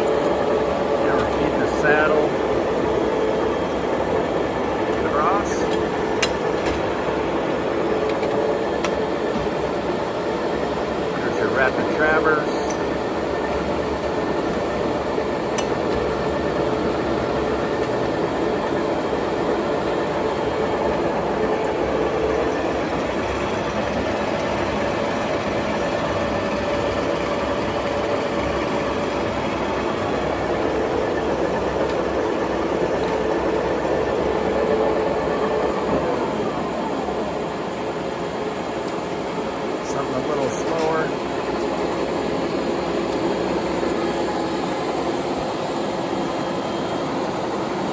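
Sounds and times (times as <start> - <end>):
lathe running: 0.0 - 47.9.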